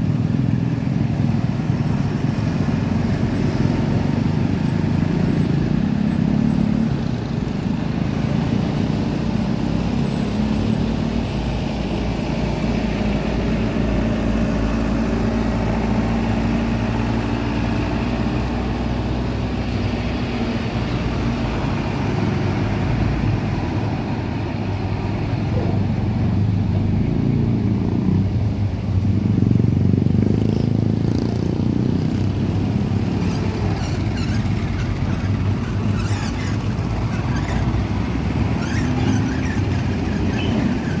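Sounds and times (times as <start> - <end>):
truck and motorcycle engines passing: 0.0 - 41.0.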